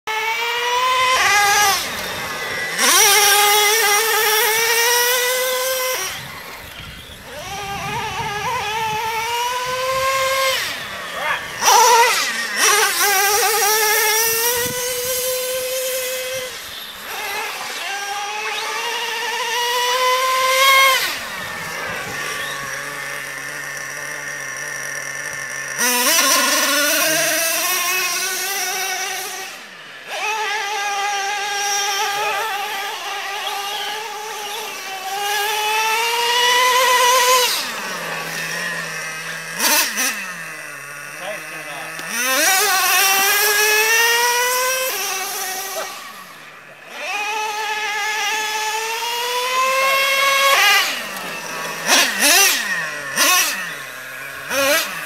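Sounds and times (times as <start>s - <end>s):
rc truck engine revving: 0.0s - 55.0s.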